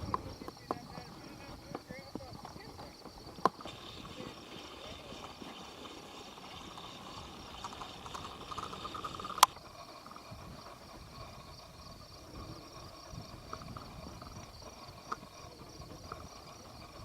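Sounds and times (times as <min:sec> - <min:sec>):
faint insect chirps: 0:00.0 - 0:17.0
insect chirring: 0:00.0 - 0:17.0.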